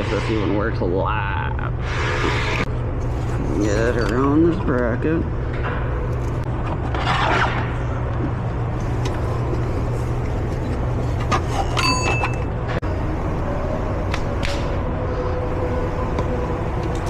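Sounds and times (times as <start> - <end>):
steady low shop hum: 0.0 - 17.0.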